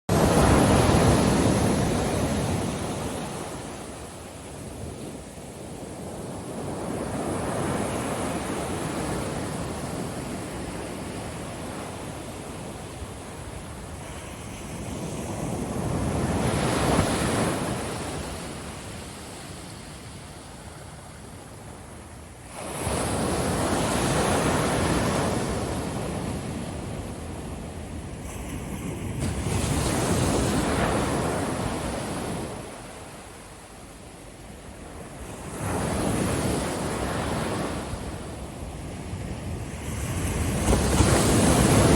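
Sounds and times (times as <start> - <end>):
ocean waves breaking on beach: 0.1 - 41.9.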